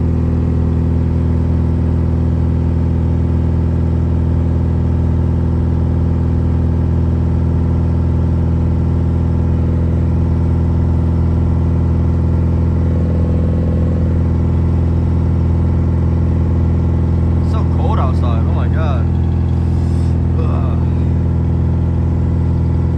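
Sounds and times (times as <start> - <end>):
car engine droning: 0.0 - 22.9.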